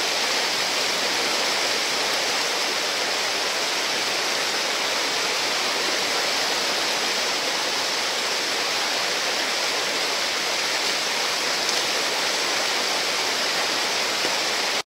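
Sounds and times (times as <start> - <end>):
whitewater rushing over rocks: 0.0 - 14.8.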